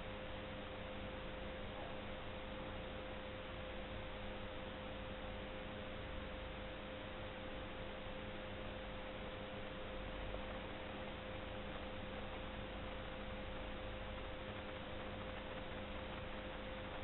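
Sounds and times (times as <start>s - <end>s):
electrical whine: 0.0s - 17.0s
low hum: 0.0s - 17.0s.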